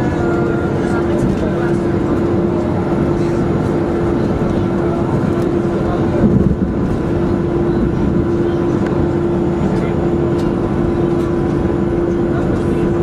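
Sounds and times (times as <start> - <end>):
airplane cabin hum: 0.0 - 13.0.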